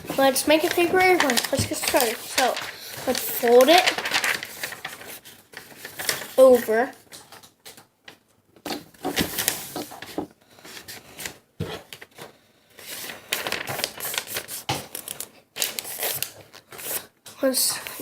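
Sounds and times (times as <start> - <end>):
paper being folded and creased: 0.0 - 7.8, 9.0 - 17.1.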